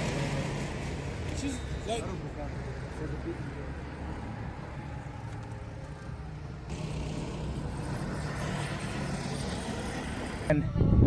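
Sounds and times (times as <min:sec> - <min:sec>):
go-kart engines humming: 0:00.0 - 0:10.8.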